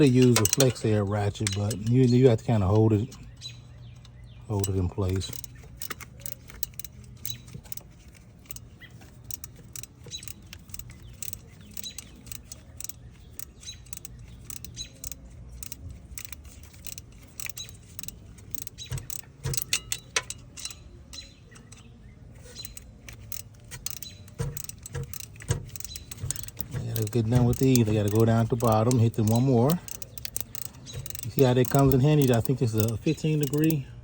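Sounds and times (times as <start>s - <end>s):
ratchet clicking on bolts: 0.0s - 34.0s.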